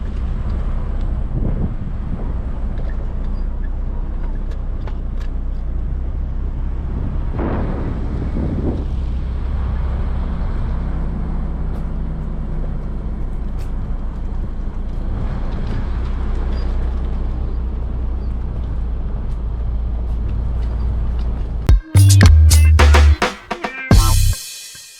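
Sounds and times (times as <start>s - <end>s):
road noise: 0.0s - 24.4s.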